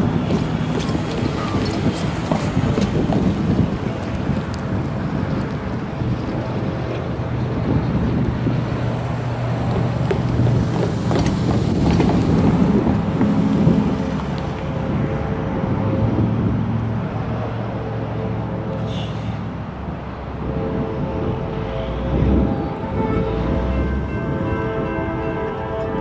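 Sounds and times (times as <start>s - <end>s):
wind buffeting microphone: 0.0s - 18.6s, 19.3s - 26.0s
locomotive engine humming: 0.0s - 26.0s.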